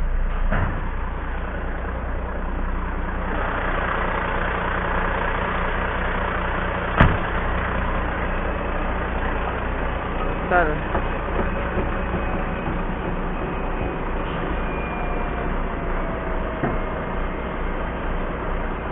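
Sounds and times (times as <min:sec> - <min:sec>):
diesel truck engine idling: 0:00.0 - 0:18.9.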